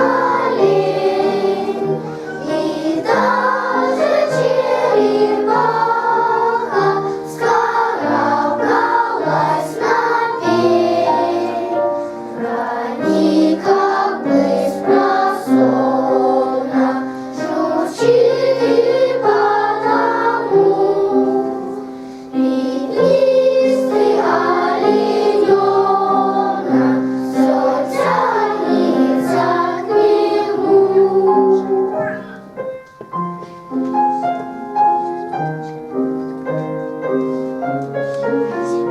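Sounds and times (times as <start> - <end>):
children's choir singing: 0.0 - 38.9
piano accompaniment: 0.0 - 38.9.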